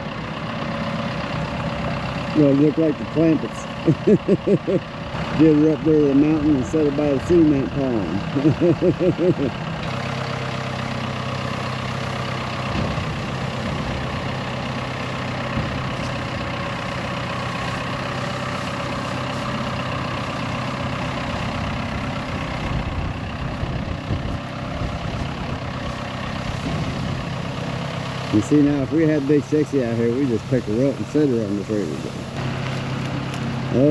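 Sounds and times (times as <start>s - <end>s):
heavy equipment engine idling: 0.0s - 33.9s.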